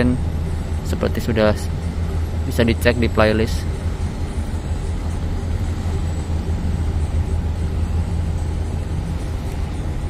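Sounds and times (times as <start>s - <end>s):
diesel engines rumbling: 0.0s - 10.0s.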